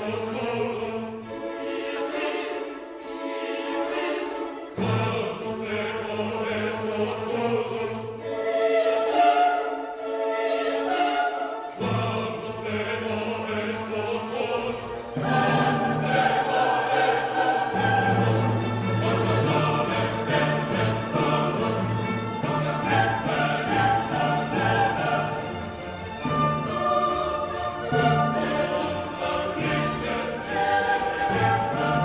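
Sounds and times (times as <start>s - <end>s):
choir singing long notes: 0.0s - 32.0s
orchestral accompaniment: 0.0s - 32.0s.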